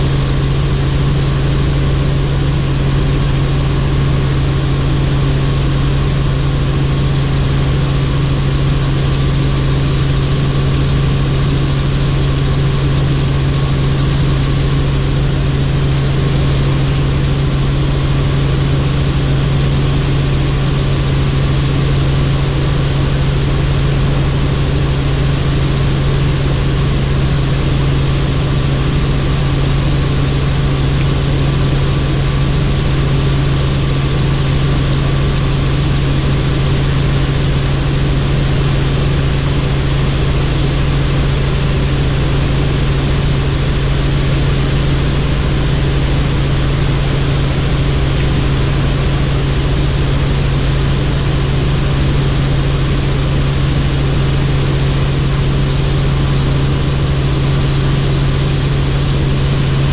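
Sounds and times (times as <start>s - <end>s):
helicopter rotor and turbine drone: 0.0s - 59.9s.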